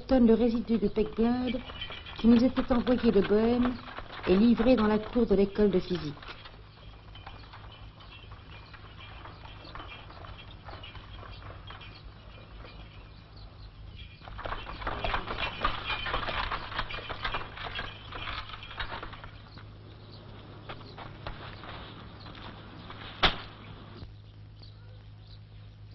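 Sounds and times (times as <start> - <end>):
cart clattering: 0.0 - 24.0
horse hooves clopping: 0.0 - 24.1.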